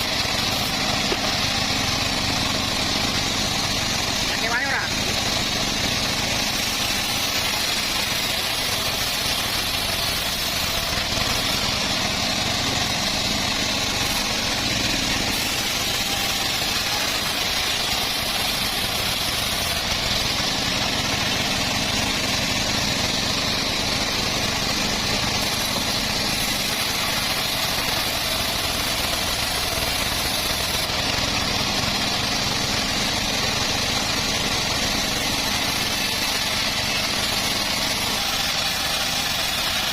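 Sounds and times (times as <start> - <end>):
bandsaw mill running: 0.0 - 39.9.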